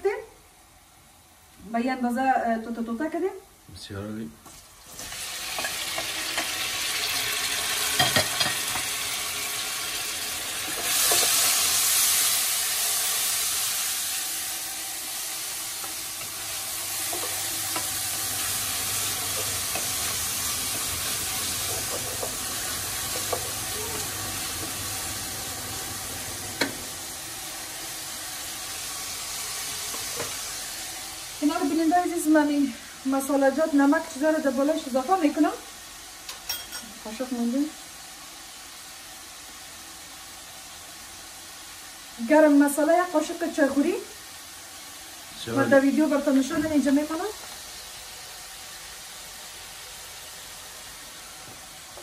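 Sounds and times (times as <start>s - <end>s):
vegetables sizzling in hot oil: 0.0s - 52.0s.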